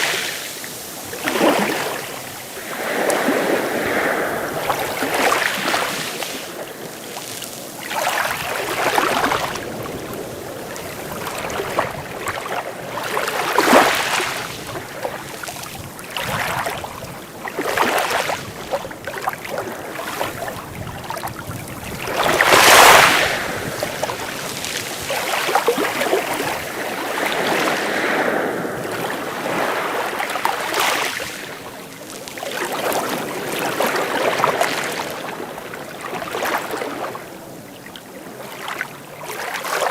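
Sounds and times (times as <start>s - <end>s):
small sea waves washing: 0.0s - 39.9s.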